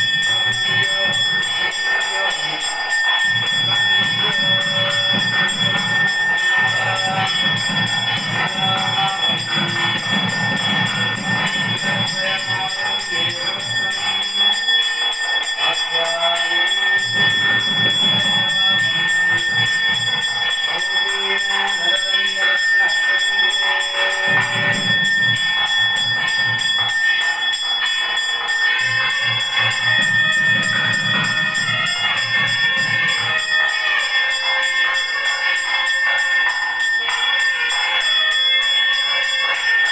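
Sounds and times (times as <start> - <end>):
bells ringing: 0.0 - 39.9
music: 0.0 - 39.9.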